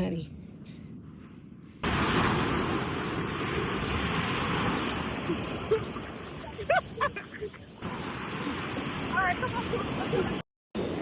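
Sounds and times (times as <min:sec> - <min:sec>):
ocean surf rushing: 0:01.8 - 0:11.0.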